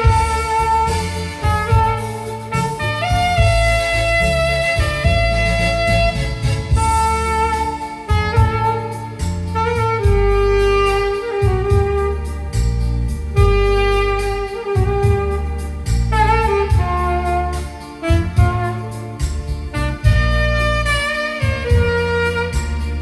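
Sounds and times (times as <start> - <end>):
bass line: 0.0 - 23.0
keyboard accompaniment: 0.0 - 23.0
saxophone melody: 0.0 - 23.0
steady beat: 0.0 - 23.0.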